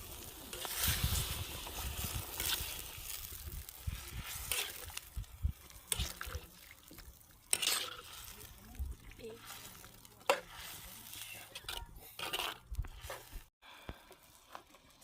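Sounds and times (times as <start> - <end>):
water splashing and trickling: 0.0 - 13.5.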